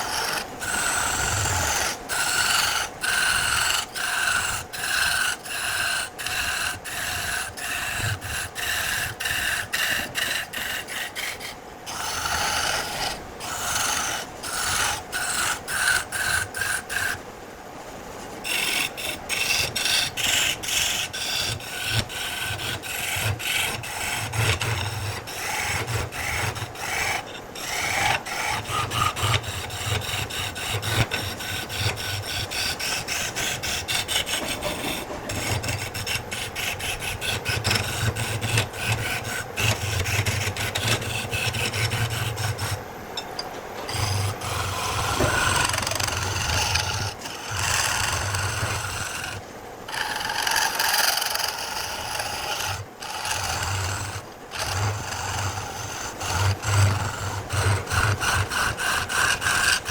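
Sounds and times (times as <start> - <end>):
hand tool scraping wood: 0.0 - 17.2, 18.5 - 59.9.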